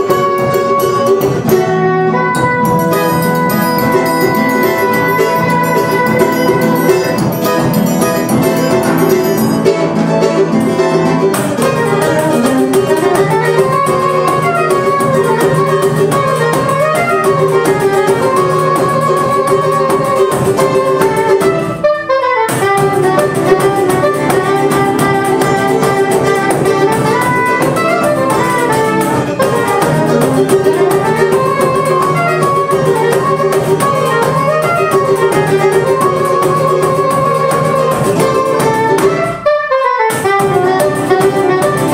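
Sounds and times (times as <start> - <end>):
acoustic guitar: 0.0 - 41.9
cavaquinho: 0.0 - 41.9
pandeiro: 0.0 - 41.9
soprano saxophone melody: 0.0 - 41.9.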